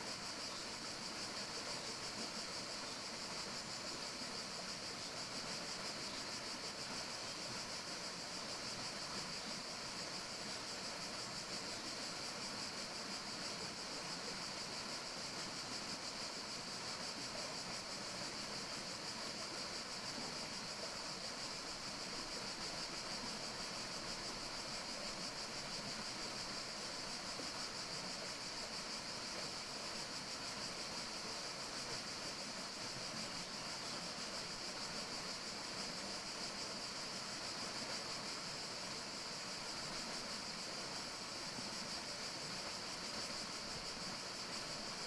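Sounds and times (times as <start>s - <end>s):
forest ambience hiss: 0.0s - 45.0s.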